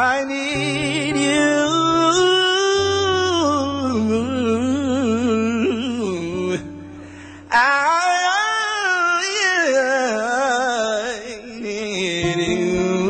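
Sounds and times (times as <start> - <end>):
acoustic guitar: 0.0 - 13.0
man singing gospel song: 0.0 - 13.0.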